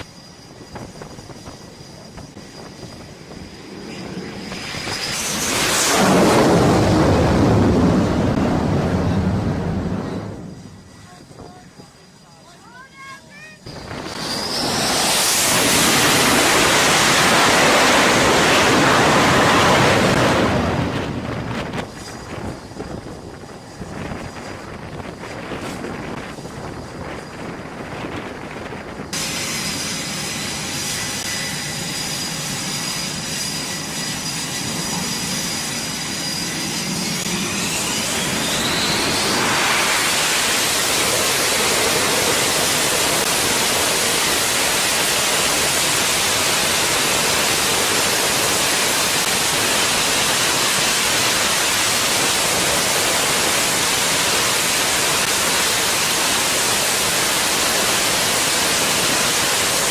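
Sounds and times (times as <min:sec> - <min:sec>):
jet engine spooling up: 0:00.0 - 0:59.9.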